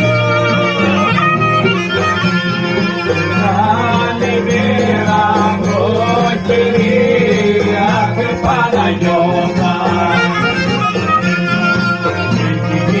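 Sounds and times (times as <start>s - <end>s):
folk dance music: 0.0s - 13.0s
person singing: 0.0s - 13.0s.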